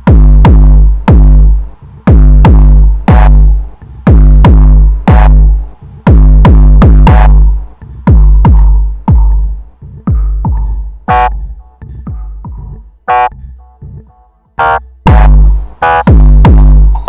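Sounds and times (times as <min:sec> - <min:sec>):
electronic music with bass drum: 0:00.0 - 0:17.0.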